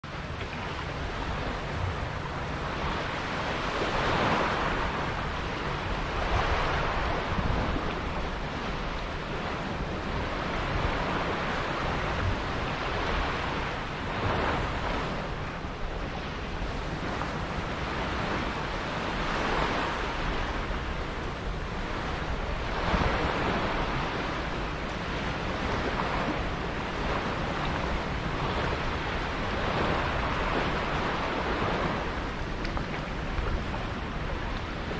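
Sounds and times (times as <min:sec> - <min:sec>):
wind on microphone: 0:00.0 - 0:34.9.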